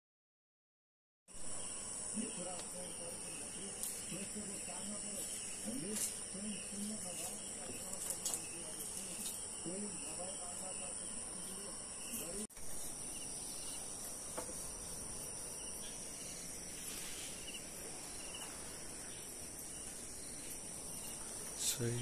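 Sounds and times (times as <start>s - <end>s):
insect chorus: 1.3s - 22.0s
short insect trills: 1.3s - 22.0s.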